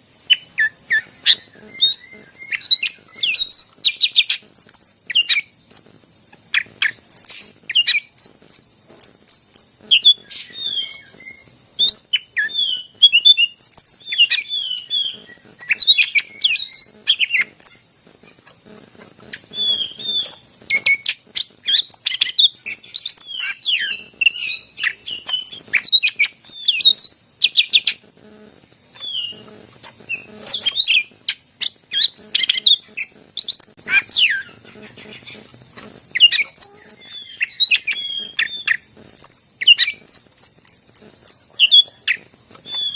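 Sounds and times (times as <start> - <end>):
bird singing chirps and whistles: 0.2 - 5.9, 6.5 - 17.8, 19.3 - 28.0, 29.0 - 35.5, 36.1 - 42.9.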